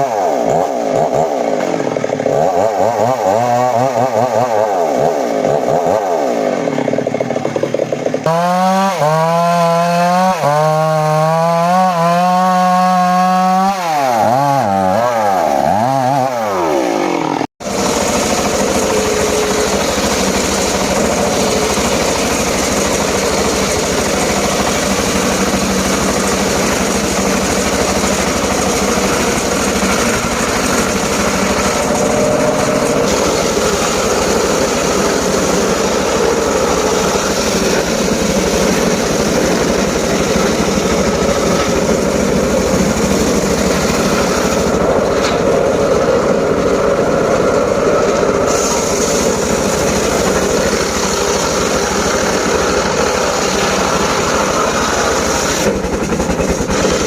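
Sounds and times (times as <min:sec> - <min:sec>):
engine-driven saw cutting wood: 0:00.0 - 0:57.0.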